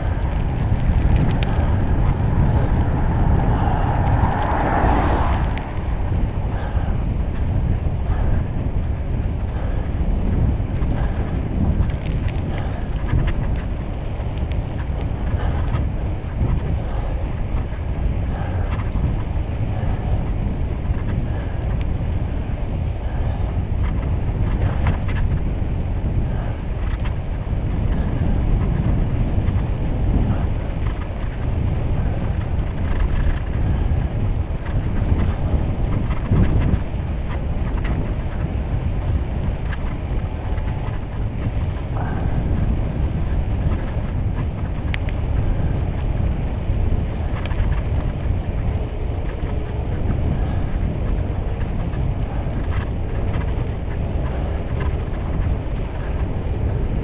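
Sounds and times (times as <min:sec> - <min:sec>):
bicycle tyres rolling on asphalt: 0:00.0 - 0:57.0
wind buffeting microphone: 0:00.0 - 0:57.0.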